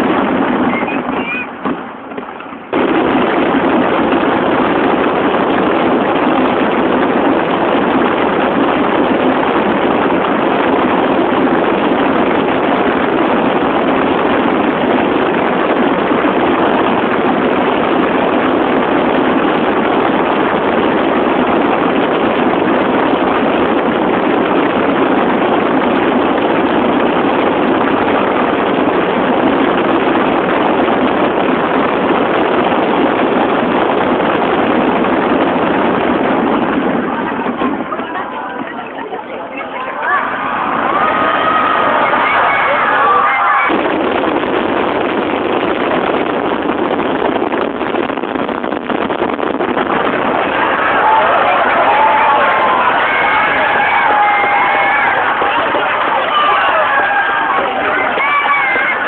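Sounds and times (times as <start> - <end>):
fireworks barrage: 0.0 - 59.0.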